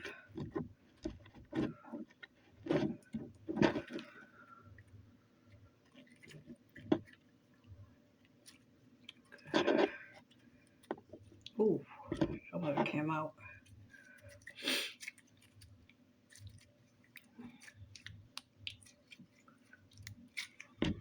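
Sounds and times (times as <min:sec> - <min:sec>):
slime squelching: 0:00.0 - 0:21.0.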